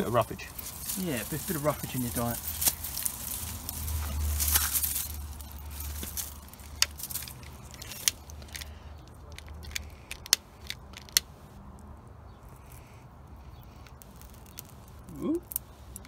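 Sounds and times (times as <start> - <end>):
dry grass rustling: 0.0 - 16.0
kindling popping and cracking: 0.0 - 16.0.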